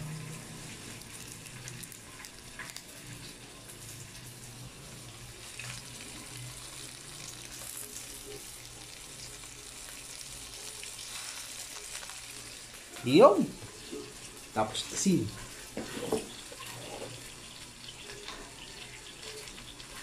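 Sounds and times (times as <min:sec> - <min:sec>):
crabs sizzling in a frying pan: 0:00.0 - 0:20.0.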